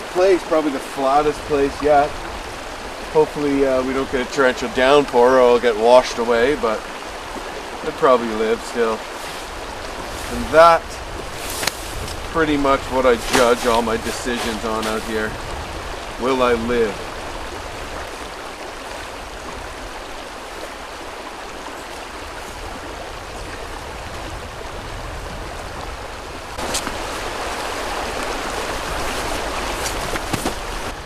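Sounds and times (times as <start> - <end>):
river rushing over gravel: 0.0 - 31.0.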